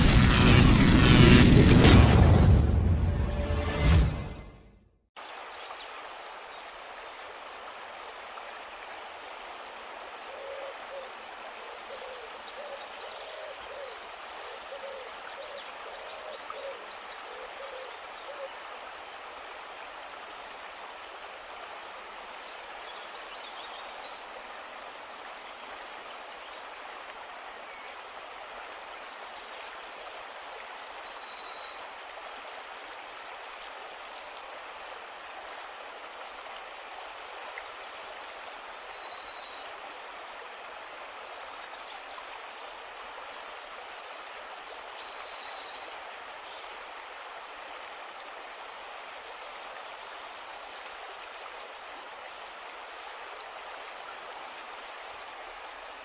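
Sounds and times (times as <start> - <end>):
steady outdoor hiss: 0.0 - 3.8, 5.2 - 56.0.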